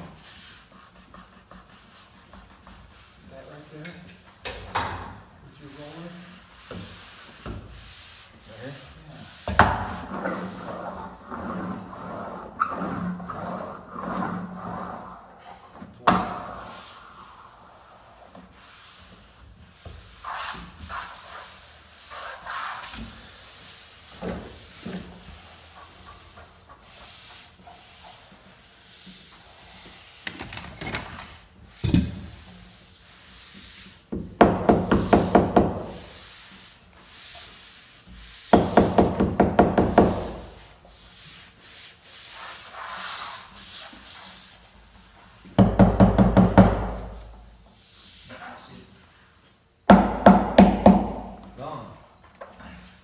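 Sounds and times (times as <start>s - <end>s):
hands rubbing laminate sheet: 0.0s - 3.9s, 5.2s - 51.6s.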